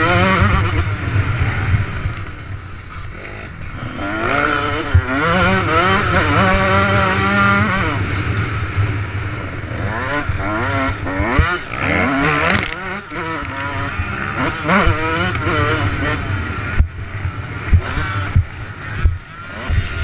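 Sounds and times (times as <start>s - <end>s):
motorbike engine revving: 3.0s - 20.0s.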